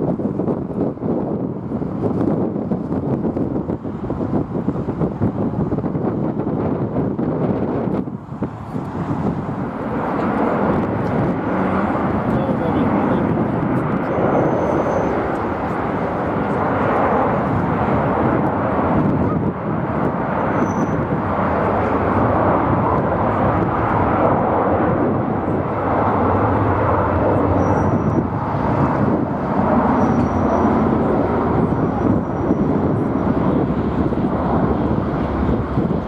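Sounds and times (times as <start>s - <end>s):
jet engine noise: 0.0s - 36.0s.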